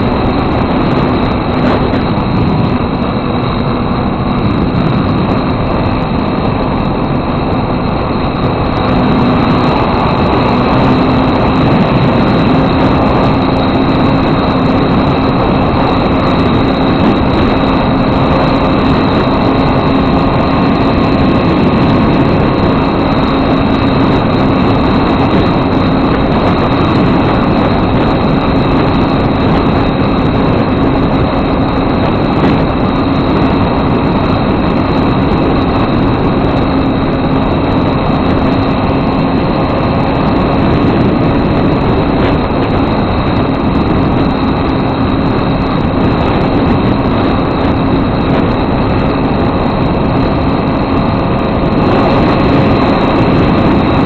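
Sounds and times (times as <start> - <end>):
model airplane motor humming: 0.0 - 54.0
wind rush: 0.0 - 54.0.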